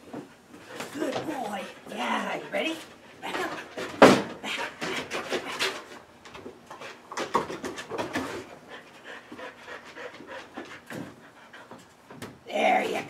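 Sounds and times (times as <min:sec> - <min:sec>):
dog panting: 0:00.6 - 0:06.0, 0:06.7 - 0:12.1.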